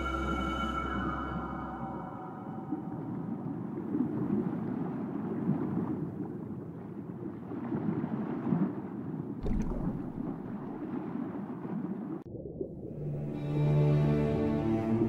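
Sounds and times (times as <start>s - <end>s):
low rumbling underwater noise: 0.0s - 13.6s.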